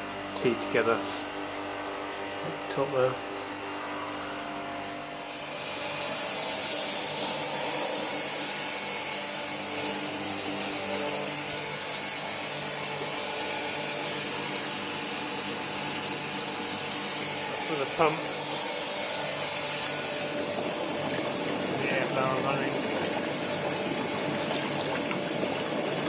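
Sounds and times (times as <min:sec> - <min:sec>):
refrigeration machinery hum: 0:00.0 - 0:26.0
air blower rushing hiss: 0:04.1 - 0:26.0.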